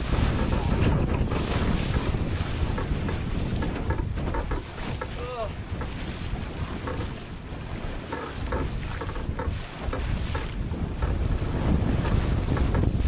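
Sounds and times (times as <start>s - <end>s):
water slapping against boat hull: 0.0s - 13.0s
wind buffeting microphone: 0.0s - 13.0s.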